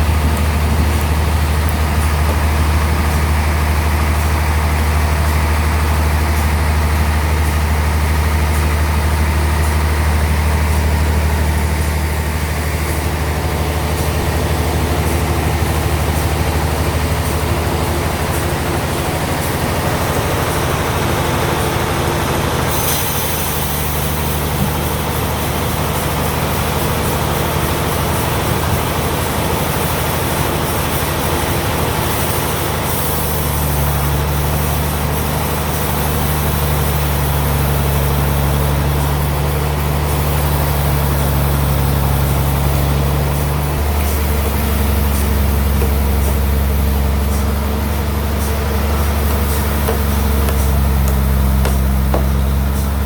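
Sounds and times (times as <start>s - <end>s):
bandsaw machinery humming: 0.0s - 53.0s.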